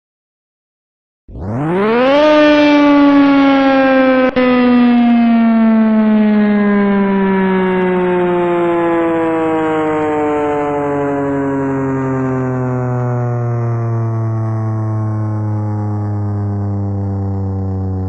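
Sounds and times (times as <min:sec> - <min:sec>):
warning siren winding down: 0:01.3 - 0:18.0.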